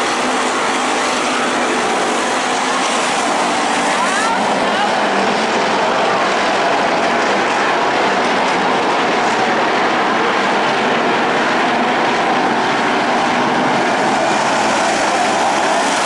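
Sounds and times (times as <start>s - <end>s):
stock car engines racing: 0.0s - 16.0s.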